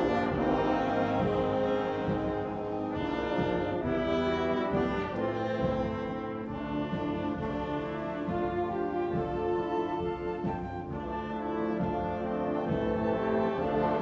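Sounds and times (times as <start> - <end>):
brass sustained chords: 0.0 - 14.0
wind ensemble playing: 0.0 - 14.0.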